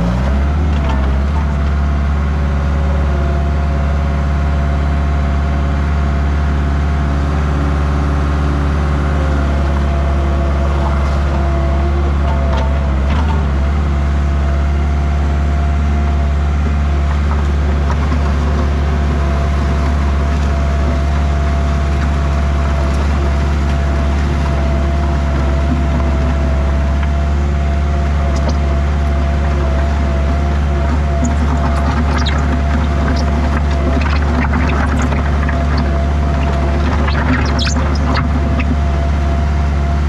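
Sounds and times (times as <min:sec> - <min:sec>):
large engine droning: 0:00.0 - 0:40.0.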